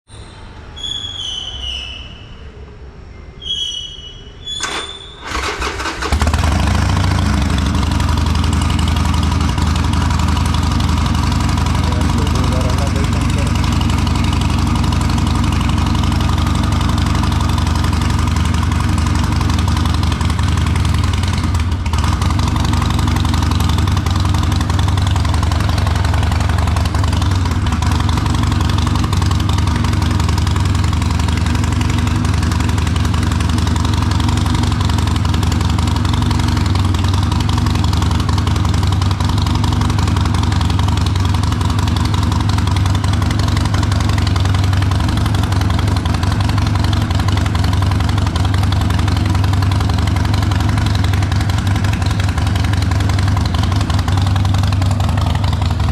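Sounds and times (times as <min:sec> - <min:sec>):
motorcycle engine idling: 0:05.2 - 0:55.9.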